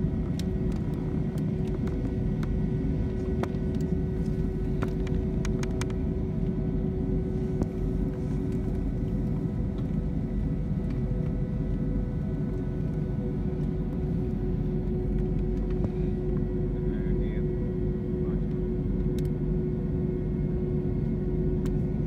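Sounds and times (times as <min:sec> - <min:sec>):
jet engine rumble and whine: 0:00.0 - 0:22.0.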